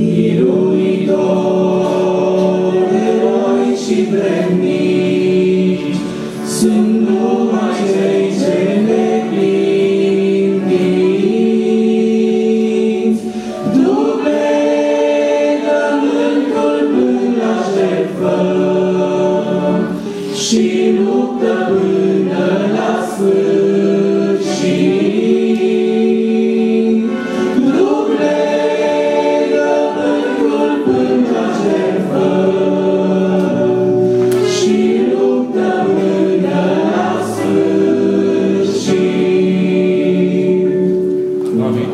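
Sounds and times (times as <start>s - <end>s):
electronic keyboard chords: 0.0s - 41.9s.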